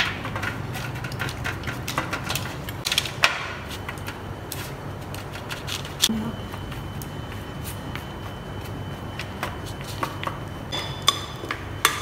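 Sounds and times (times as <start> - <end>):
spatula tapping and scraping: 0.0 - 12.0.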